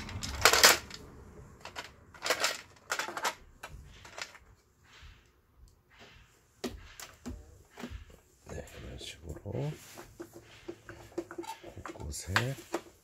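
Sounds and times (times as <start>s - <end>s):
plastic parts clacking: 0.0s - 13.0s.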